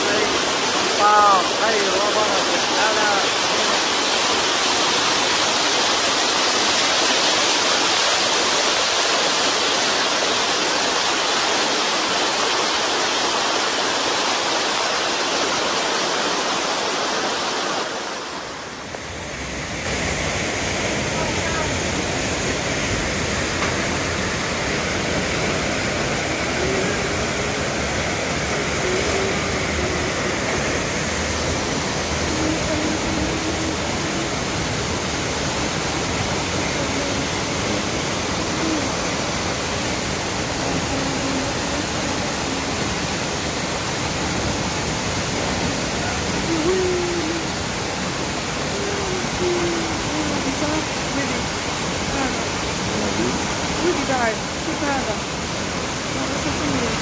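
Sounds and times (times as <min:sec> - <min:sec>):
heavy rain: 0:00.0 - 0:57.0
water rushing: 0:00.0 - 0:57.0.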